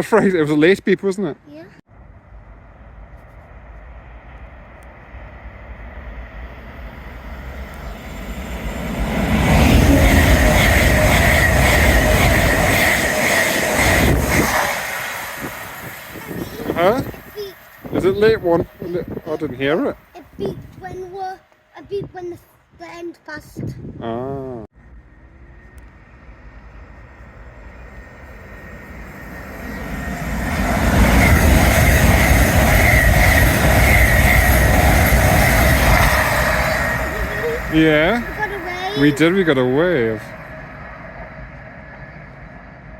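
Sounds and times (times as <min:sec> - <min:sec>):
freight train wagons rumbling: 0:01.9 - 0:21.5, 0:25.0 - 0:42.9
high whine: 0:02.0 - 0:20.8, 0:24.8 - 0:42.9.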